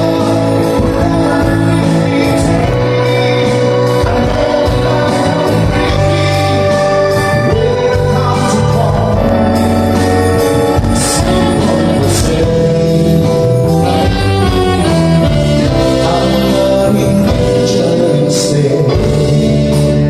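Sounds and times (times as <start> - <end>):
live band playing: 0.0 - 20.0
person singing: 0.0 - 20.0.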